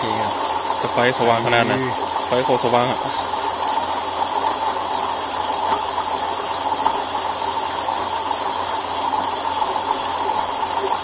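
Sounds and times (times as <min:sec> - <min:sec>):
machine whirring with hiss: 0:00.0 - 0:11.0.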